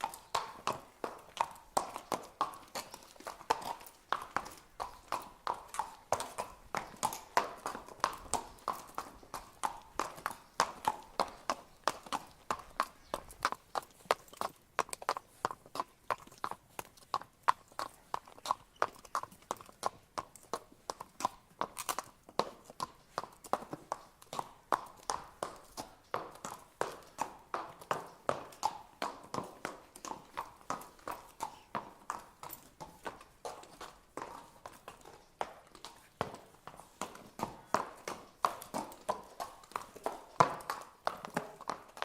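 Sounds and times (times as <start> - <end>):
horse hooves clip-clopping: 0.0 - 42.0.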